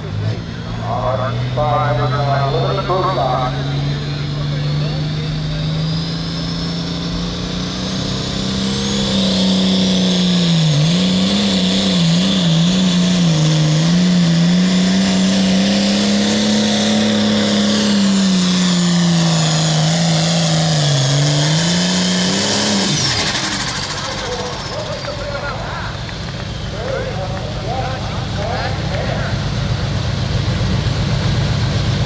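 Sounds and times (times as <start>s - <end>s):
high whine: 0.0s - 32.0s
tractor diesel engine under load: 0.0s - 32.0s.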